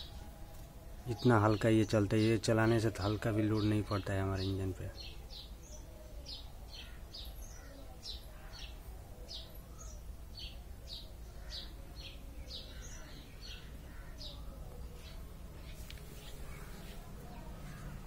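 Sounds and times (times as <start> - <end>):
low steady background noise: 0.0 - 18.0
small birds chirping: 0.0 - 18.0.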